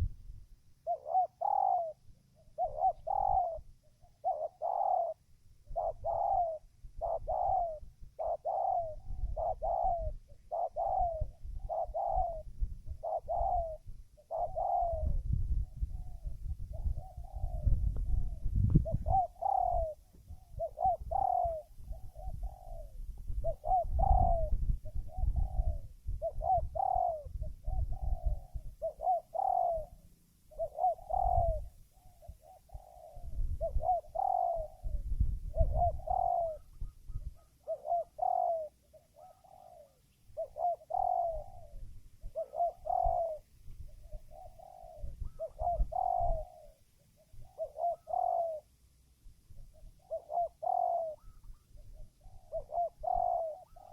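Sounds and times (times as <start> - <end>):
dove cooing: 0.7 - 53.9.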